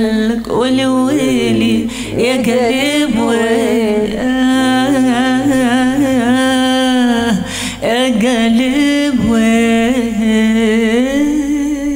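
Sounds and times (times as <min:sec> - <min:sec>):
woman singing into microphone: 0:00.0 - 0:11.9.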